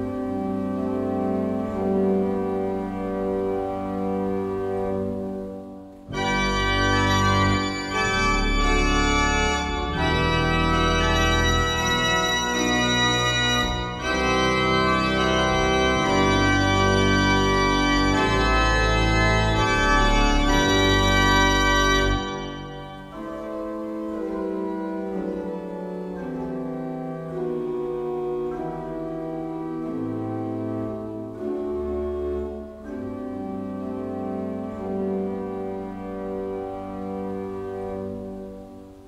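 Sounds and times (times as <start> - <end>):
pipe organ chords: 0.0 - 39.0.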